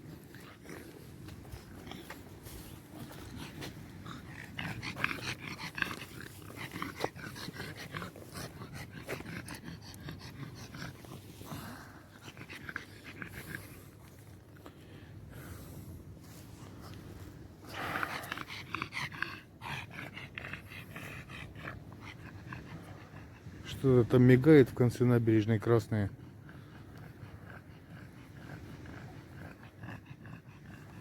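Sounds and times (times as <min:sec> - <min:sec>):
dog panting: 0:00.0 - 0:14.6, 0:16.8 - 0:24.5, 0:25.4 - 0:31.0.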